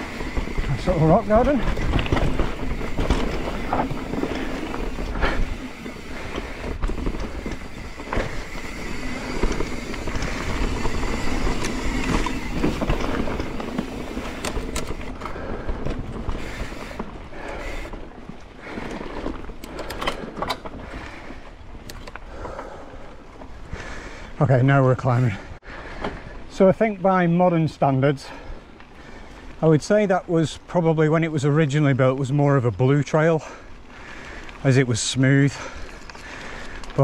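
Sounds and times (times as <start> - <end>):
bike chain and frame rattling: 0.0 - 25.5, 32.5 - 37.0
bike tyres rumbling over rocks: 0.0 - 37.0.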